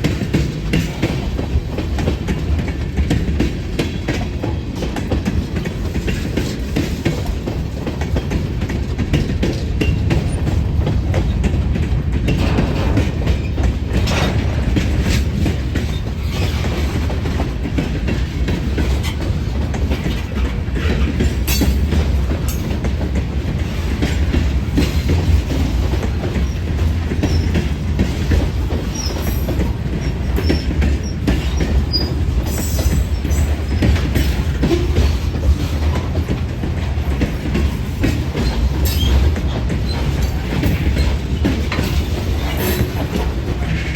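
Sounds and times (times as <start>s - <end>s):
clatter over rail joints: 0.0s - 43.9s
train wheels rumbling on rail: 0.0s - 43.9s.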